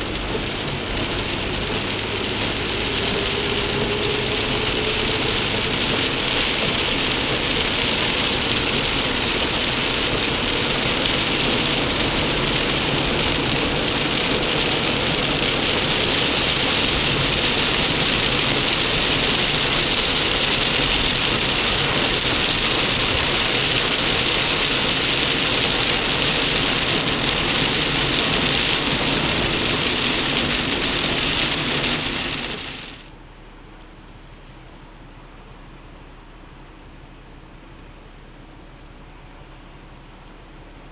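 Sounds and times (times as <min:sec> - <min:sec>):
car interior road noise: 0:00.0 - 0:40.9.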